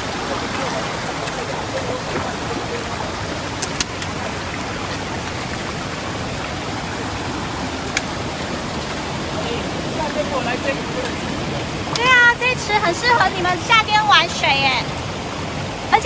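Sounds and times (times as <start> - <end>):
mountain stream flowing: 0.0 - 16.0.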